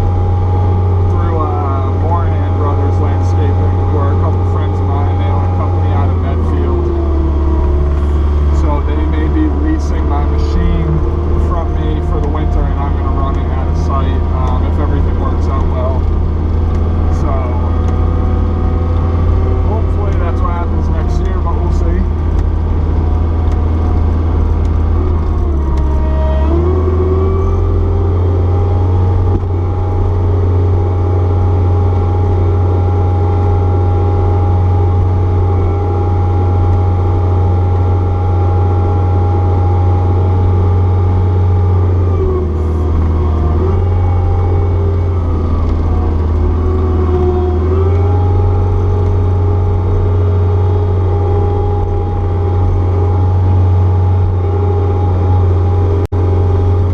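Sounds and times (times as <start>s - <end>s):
diesel engine running under load: 0.0s - 56.9s.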